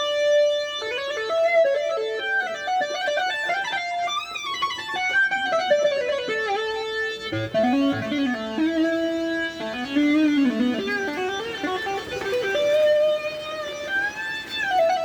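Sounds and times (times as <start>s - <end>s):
keyboard plucked guitar-like notes: 0.0s - 15.0s.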